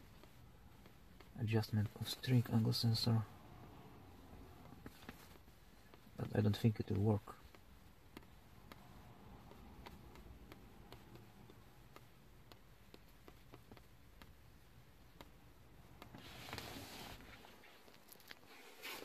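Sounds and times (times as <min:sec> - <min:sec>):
faint regular ticking: 0:00.0 - 0:16.1.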